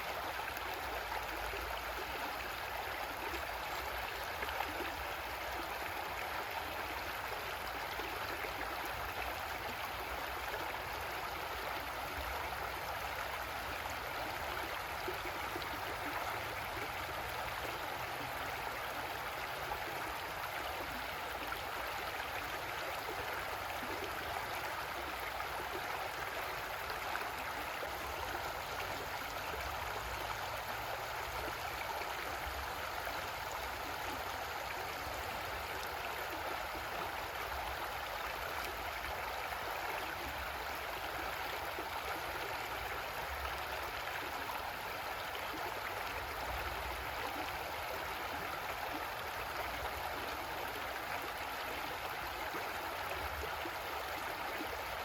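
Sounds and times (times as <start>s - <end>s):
creek water gurgling over rocks: 0.0s - 55.0s.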